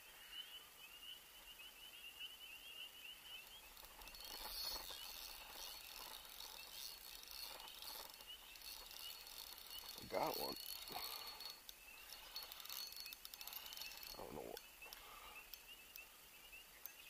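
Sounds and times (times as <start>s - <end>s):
high bird chirps: 0.2s - 17.0s.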